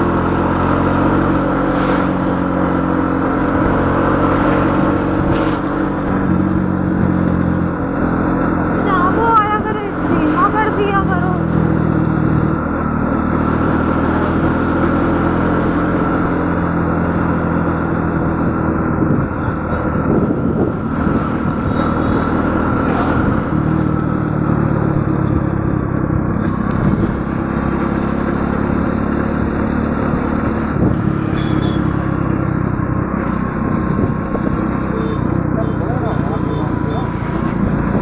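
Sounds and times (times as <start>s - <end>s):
engine humming: 0.0s - 38.0s.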